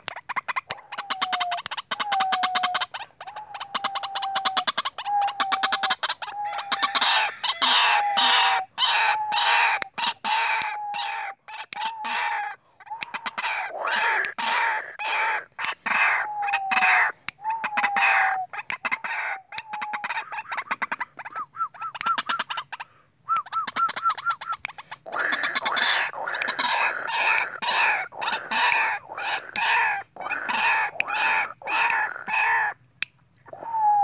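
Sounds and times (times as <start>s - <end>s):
bird harsh croaking calls: 0.0s - 32.9s.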